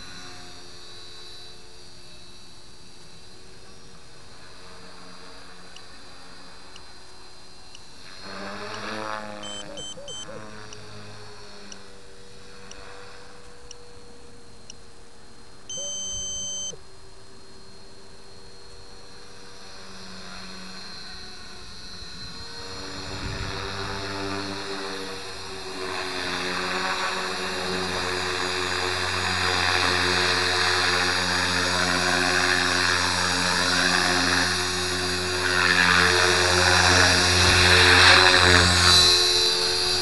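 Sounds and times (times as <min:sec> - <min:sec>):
model helicopter whirring whine: 0:00.0 - 0:40.0.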